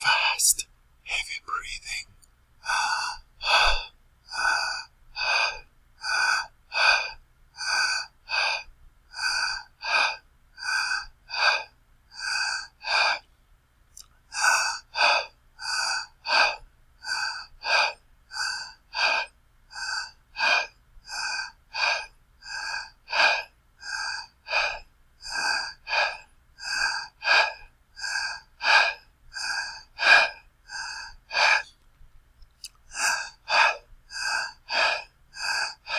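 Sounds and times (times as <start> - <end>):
person breathing fast and heavily: 2.6 - 13.3, 14.4 - 31.8, 32.7 - 35.9.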